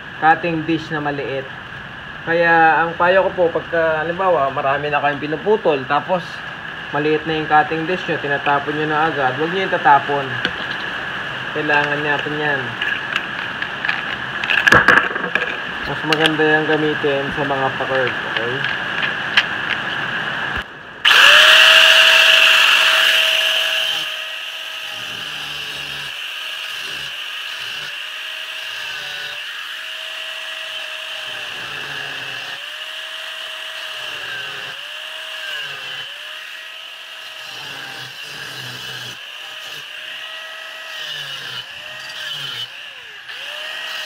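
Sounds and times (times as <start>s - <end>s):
angle grinder cutting steel: 7.0s - 20.0s, 21.0s - 44.0s.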